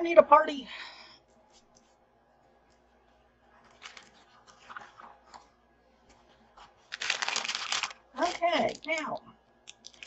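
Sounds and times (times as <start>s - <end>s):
faint rustling and crinkling: 1.2s - 10.0s.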